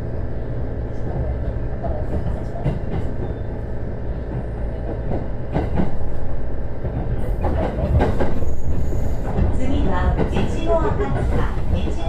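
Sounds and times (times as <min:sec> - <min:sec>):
rail joint clicks: 0:00.0 - 0:12.0
train wheels rumbling on track: 0:00.0 - 0:12.0.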